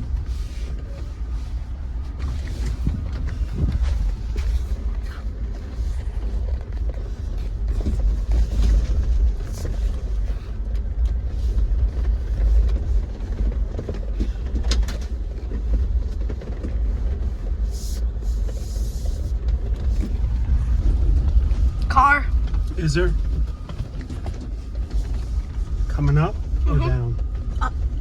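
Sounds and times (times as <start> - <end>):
engine and tyres rumbling: 0.0 - 28.0.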